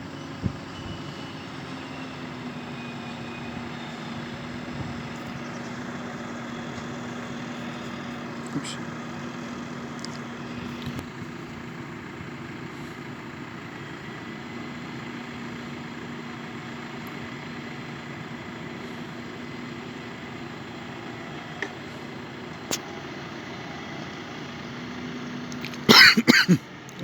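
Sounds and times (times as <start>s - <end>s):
tractor engine humming: 0.0s - 27.0s.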